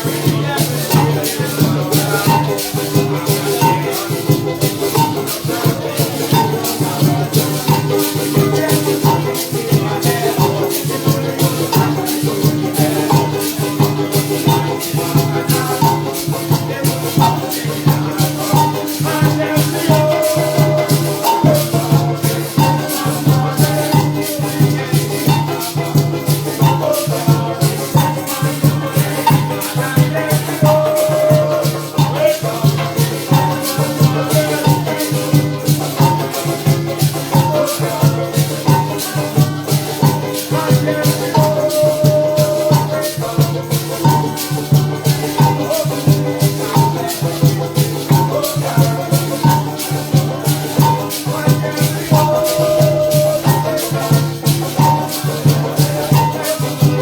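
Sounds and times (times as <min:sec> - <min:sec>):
band music: 0:00.0 - 0:57.0
maracas shaking: 0:00.0 - 0:57.0.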